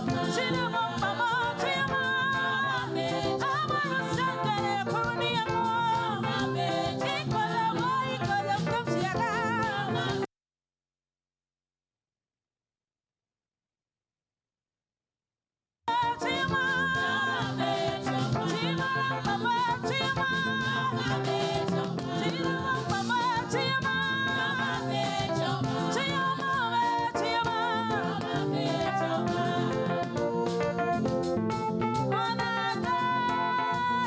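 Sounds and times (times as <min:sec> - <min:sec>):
instrumental accompaniment: 0:00.0 - 0:10.2, 0:15.9 - 0:34.0
choir singing gospel song: 0:00.0 - 0:10.3, 0:15.9 - 0:34.0.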